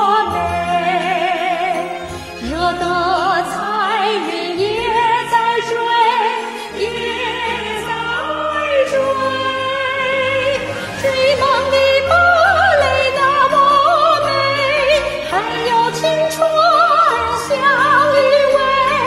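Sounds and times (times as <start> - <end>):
woman singing operatically: 0.0 - 19.0.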